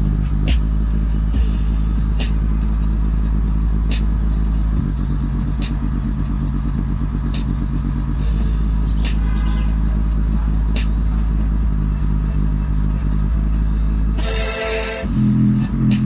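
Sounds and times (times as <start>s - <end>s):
bass-heavy music through speakers: 0.0s - 16.0s.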